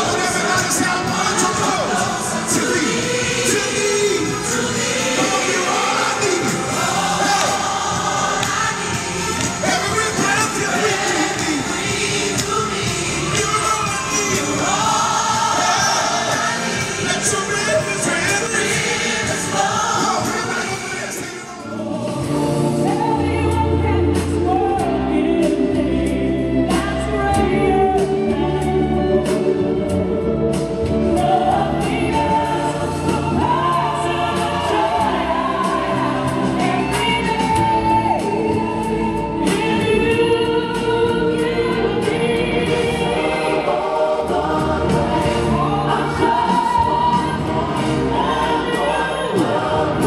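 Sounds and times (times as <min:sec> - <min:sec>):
gospel choir singing: 0:00.0 - 0:50.0.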